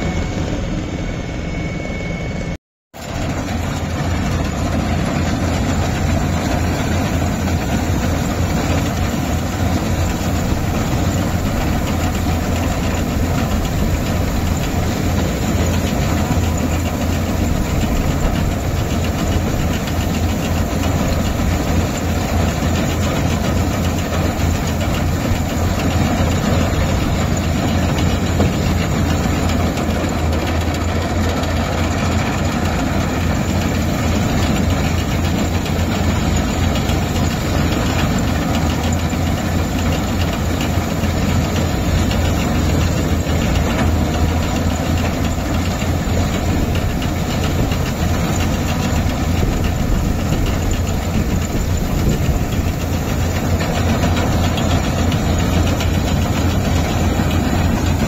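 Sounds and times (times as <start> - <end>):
combine harvester engine drone: 0.0 - 58.0
threshing machinery clatter: 3.0 - 58.0.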